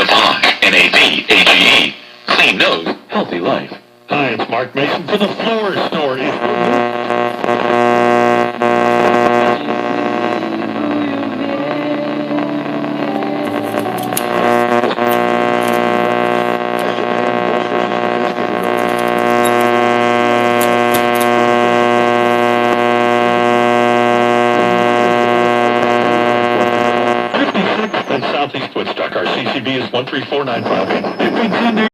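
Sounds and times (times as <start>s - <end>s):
buzzing hum from car radio: 0.0s - 31.9s.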